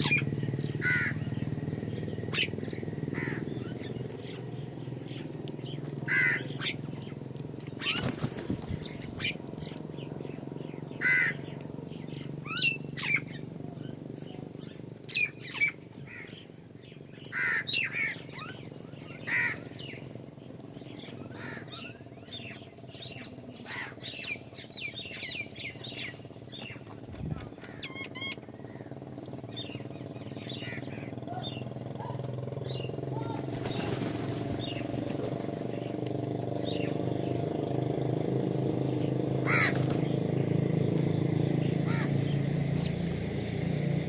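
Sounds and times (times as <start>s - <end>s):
small birds chirping: 0.0s - 44.0s
steady low hum: 0.0s - 44.0s.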